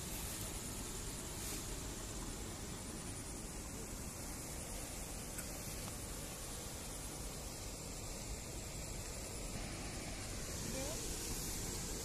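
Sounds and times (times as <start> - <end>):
hiss: 0.0 - 12.0.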